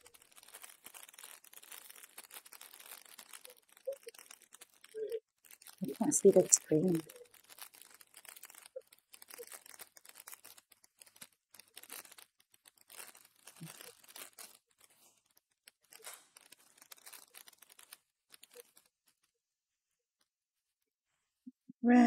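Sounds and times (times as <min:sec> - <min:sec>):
foil wrapper tearing and crinkling: 0:00.0 - 0:19.4.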